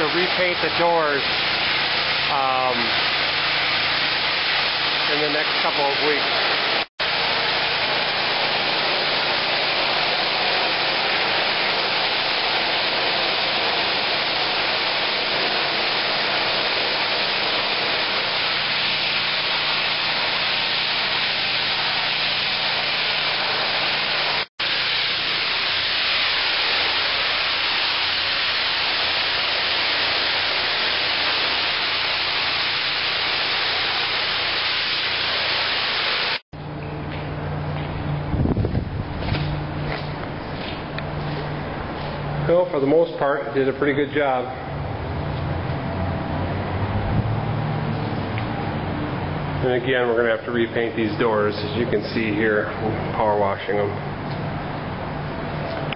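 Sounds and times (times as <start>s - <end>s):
pressure washer water jet hissing: 0.0s - 36.5s, 37.7s - 55.9s.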